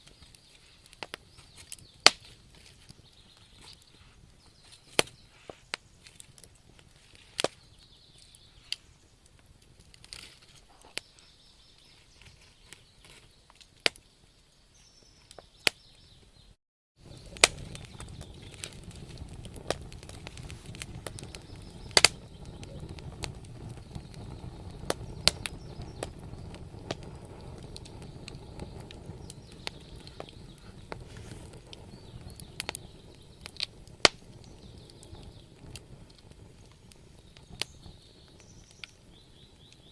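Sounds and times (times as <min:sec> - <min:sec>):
low rush of flames: 0:00.0 - 0:14.5, 0:17.0 - 0:39.9
wood fire crackling and popping: 0:00.0 - 0:16.3, 0:17.0 - 0:39.9.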